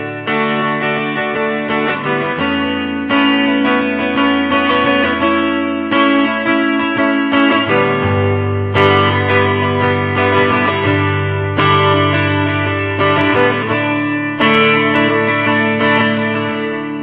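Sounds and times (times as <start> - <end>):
guitar chords with effects: 0.0 - 17.0.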